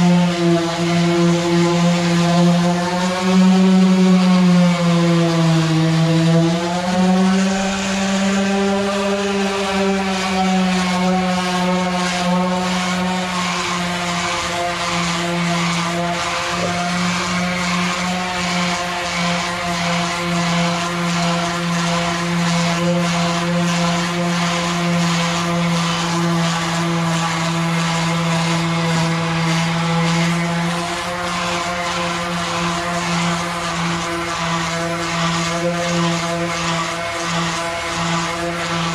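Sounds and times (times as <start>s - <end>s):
power sander on metal: 0.0s - 38.9s.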